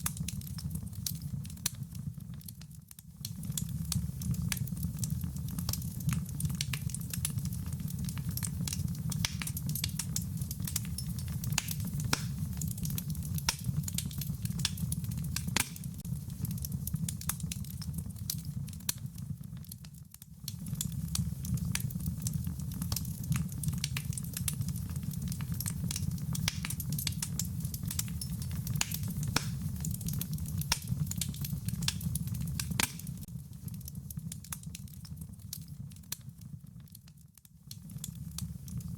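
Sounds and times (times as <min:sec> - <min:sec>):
wood fire crackling and popping: 0:00.0 - 0:38.9
rain patter: 0:03.2 - 0:36.2.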